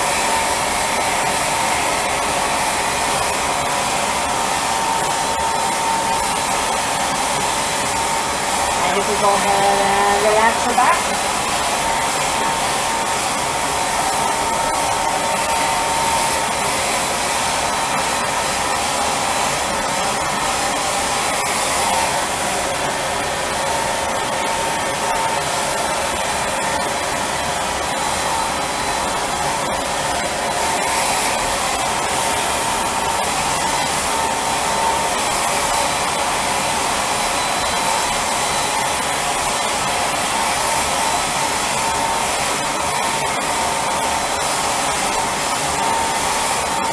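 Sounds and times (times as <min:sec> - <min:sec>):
blower running: 0:00.0 - 0:46.9
thin steady whine: 0:00.0 - 0:46.9.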